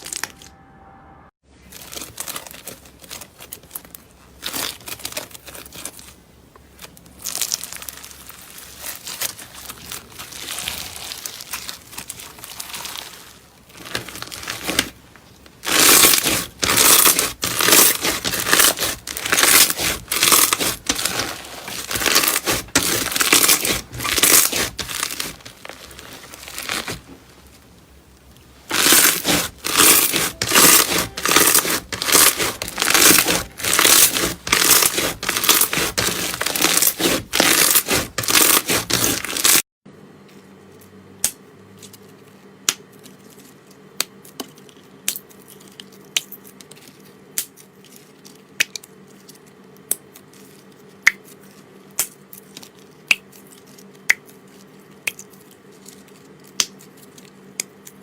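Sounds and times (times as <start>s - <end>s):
slime crackling and crunching: 0.0s - 0.5s, 1.6s - 39.6s, 41.2s - 58.0s.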